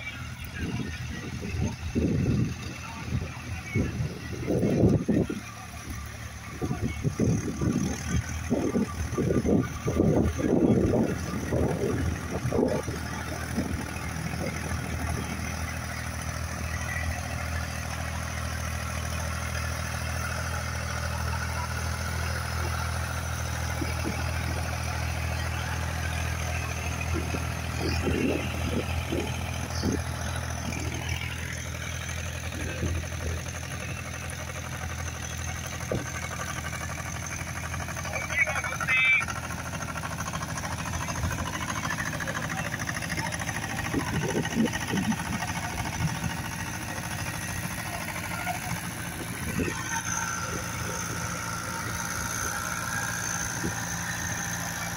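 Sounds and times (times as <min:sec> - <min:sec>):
small tractor engines running: 0:00.0 - 0:54.9.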